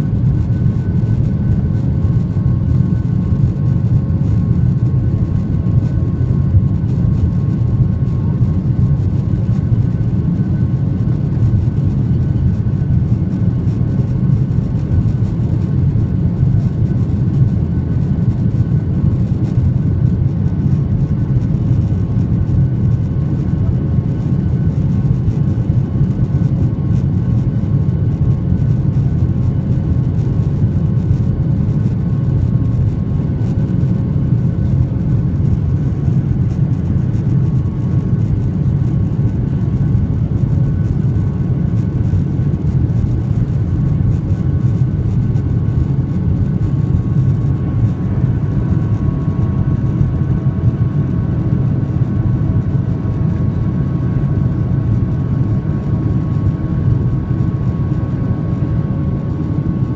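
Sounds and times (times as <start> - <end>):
faint steady engine tones: 0.0 - 59.9
jet engines roaring in cabin: 0.0 - 59.9.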